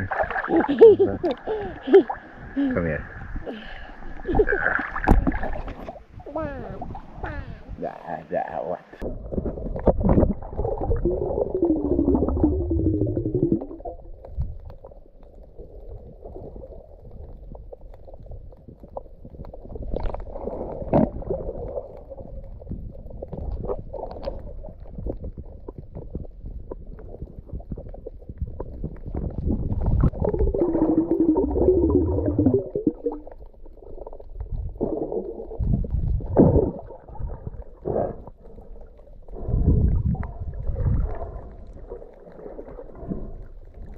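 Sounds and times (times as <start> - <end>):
wavering bubbling underwater: 0.0 - 7.8, 8.8 - 43.9
water gurgling underwater: 0.0 - 7.9, 8.8 - 43.9.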